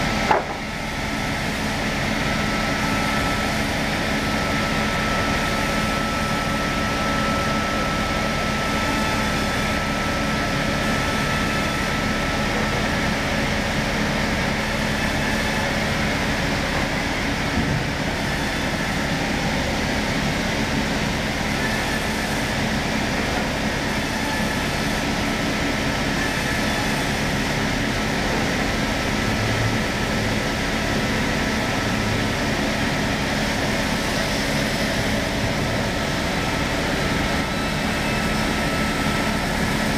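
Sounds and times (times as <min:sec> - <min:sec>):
electric sawing machine running: 0:00.0 - 0:39.9.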